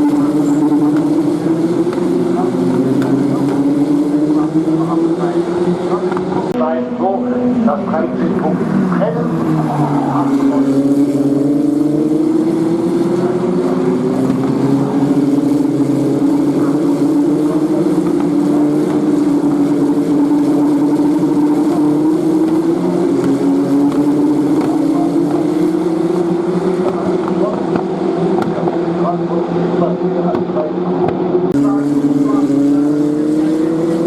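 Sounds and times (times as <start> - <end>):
racing car engines at speed: 0.0 - 34.0.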